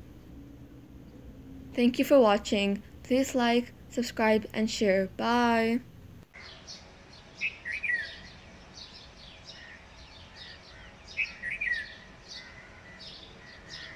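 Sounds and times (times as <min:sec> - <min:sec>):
birds chirping: 0:02.2 - 0:13.9.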